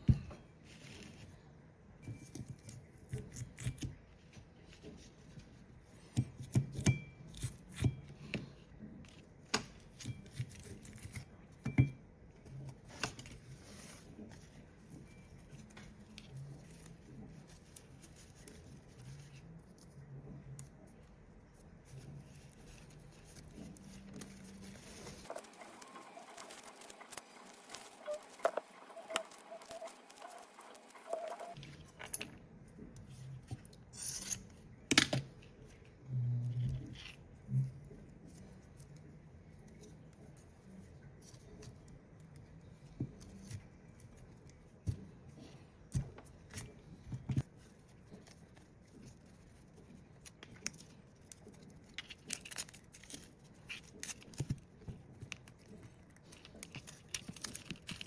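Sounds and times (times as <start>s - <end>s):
faint low hum: 6.9s - 58.0s.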